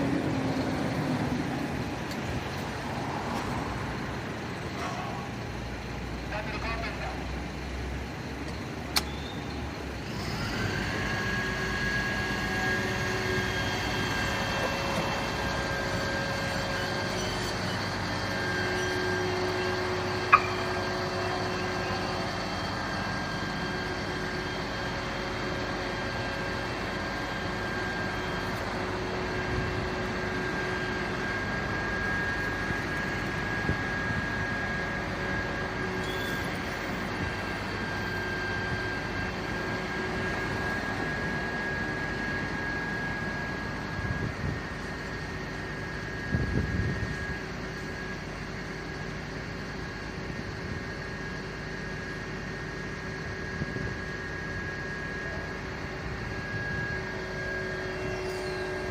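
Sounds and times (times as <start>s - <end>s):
fire truck engine droning: 0.0s - 58.9s
whining tones: 8.2s - 58.9s.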